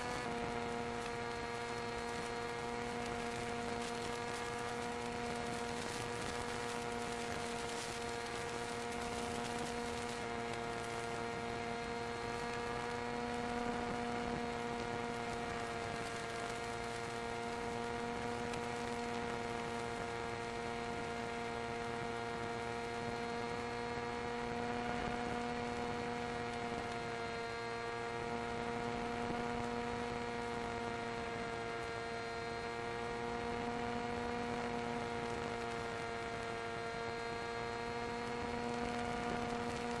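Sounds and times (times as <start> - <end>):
model plane motor droning: 0.0 - 40.0.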